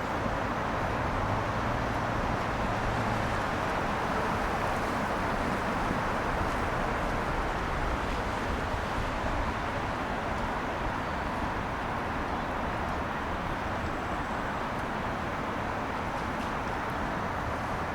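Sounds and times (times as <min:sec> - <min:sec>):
passing cars: 0:00.0 - 0:17.9
tyres on wet road: 0:00.0 - 0:17.9.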